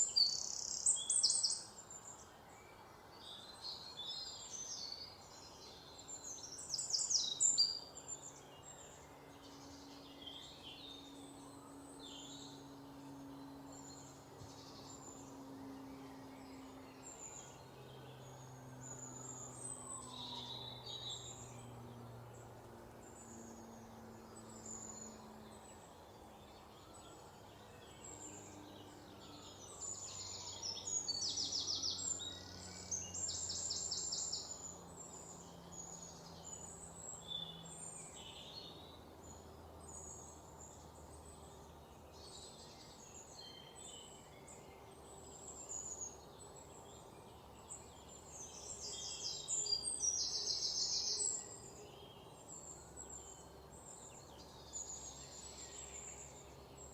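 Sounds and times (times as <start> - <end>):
faint low hum: 0.0 - 56.9
small birds chirping: 0.0 - 56.9.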